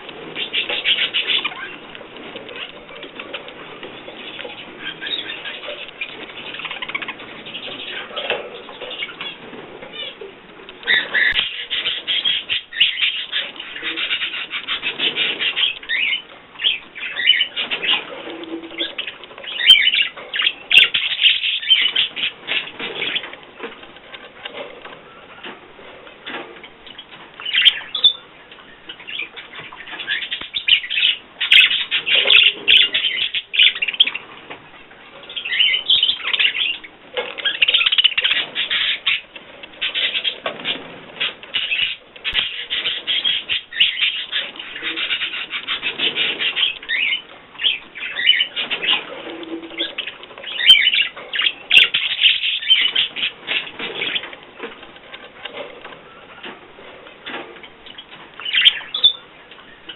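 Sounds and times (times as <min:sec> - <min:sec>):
bird chattering and chirping: 0:00.0 - 0:25.5, 0:26.2 - 0:34.4, 0:35.0 - 0:56.6, 0:57.2 - 0:59.9.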